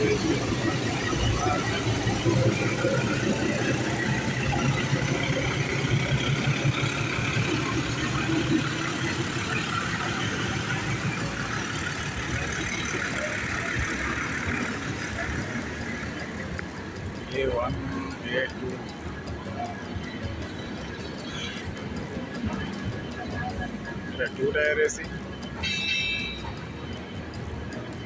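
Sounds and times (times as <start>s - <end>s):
general background noise: 0.0s - 28.0s
train engine hum: 0.0s - 28.0s.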